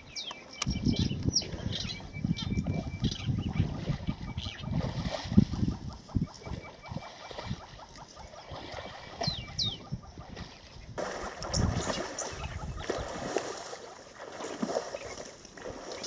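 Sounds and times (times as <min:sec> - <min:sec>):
birds calling: 0:00.0 - 0:16.0
animals splashing in mud: 0:01.4 - 0:16.0.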